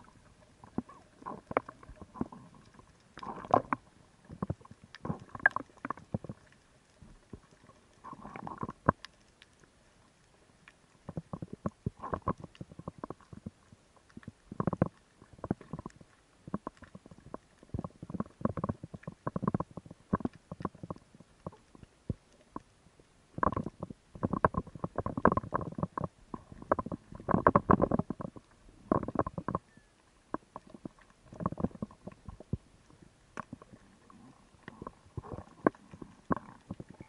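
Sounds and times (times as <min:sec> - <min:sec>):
muffled underwater crackling and knocking: 0:00.0 - 0:37.0.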